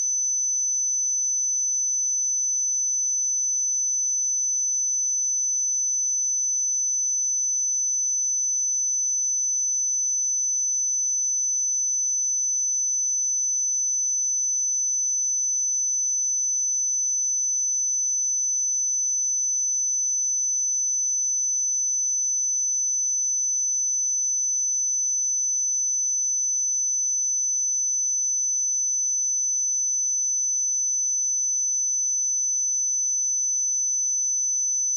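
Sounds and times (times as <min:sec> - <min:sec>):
high-pitched sine-wave test tone: 0:00.0 - 0:34.9.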